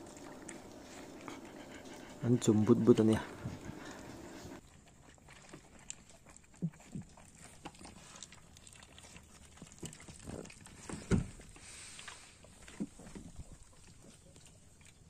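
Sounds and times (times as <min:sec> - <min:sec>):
puppies crunching kibble: 0:00.0 - 0:15.0.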